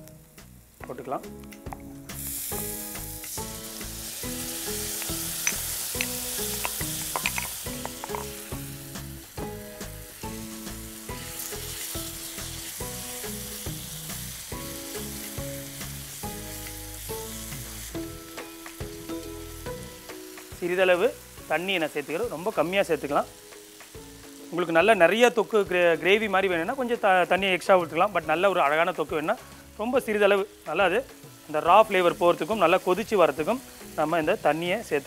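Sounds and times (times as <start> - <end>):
background music: 0.0 - 35.0
food sizzling in oil: 0.0 - 35.0.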